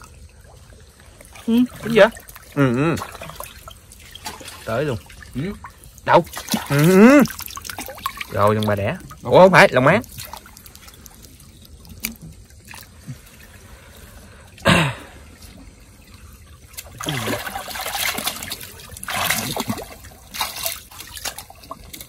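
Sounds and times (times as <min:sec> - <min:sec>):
water trickling and splashing: 0:00.0 - 0:22.0.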